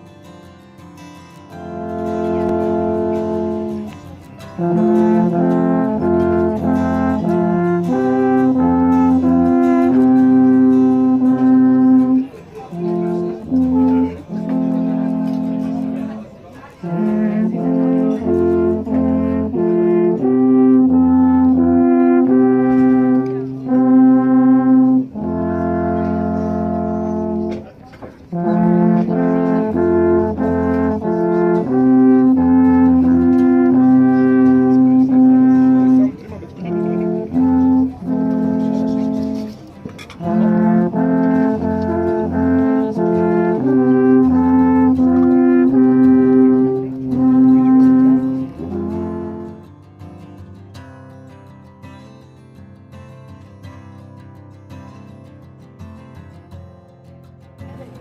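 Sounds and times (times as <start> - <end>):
alphorns playing in harmony: 1.5 - 49.7.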